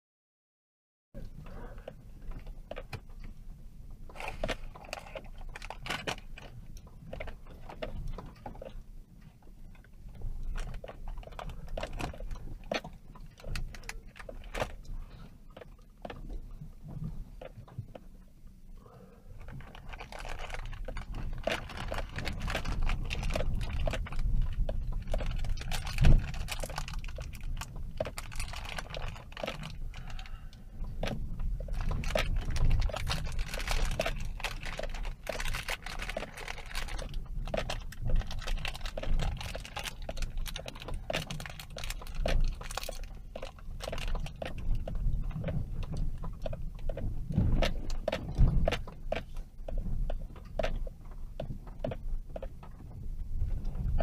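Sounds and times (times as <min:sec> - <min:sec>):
low road rumble: 0:01.2 - 0:54.0
vehicle clicks and rattles: 0:01.2 - 0:54.0.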